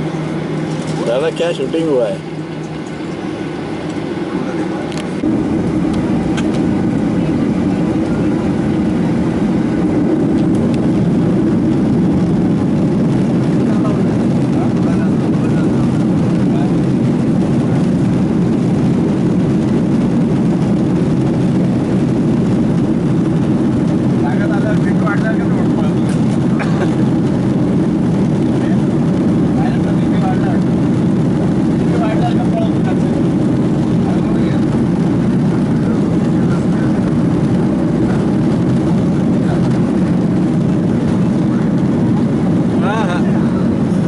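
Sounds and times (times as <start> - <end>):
airliner engine drone in cabin: 0.0 - 44.0.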